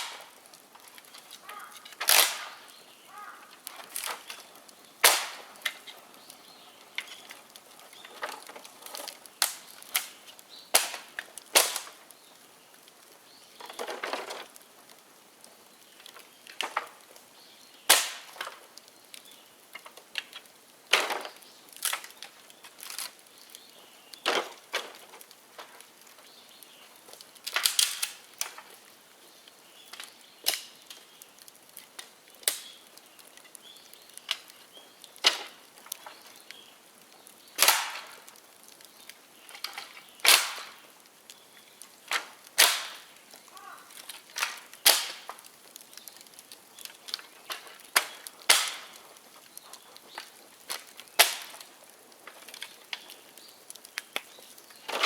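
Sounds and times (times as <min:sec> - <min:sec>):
bonfire crackling and popping: 0:00.0 - 0:55.0.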